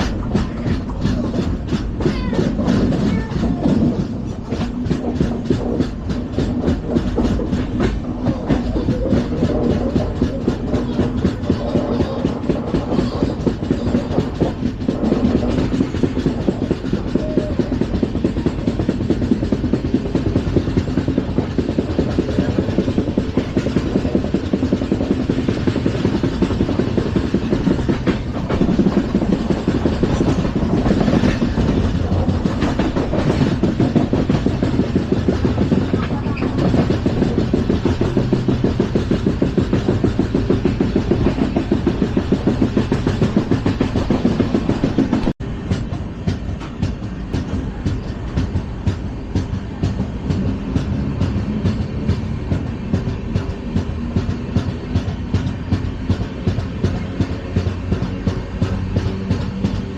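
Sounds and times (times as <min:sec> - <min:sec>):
train rumbling over track: 0:00.0 - 0:59.9
wheels rattling on rail: 0:00.0 - 0:59.9.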